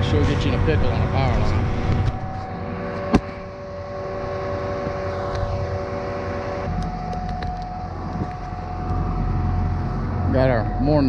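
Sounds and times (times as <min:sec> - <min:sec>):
engines droning: 0:00.0 - 0:11.0.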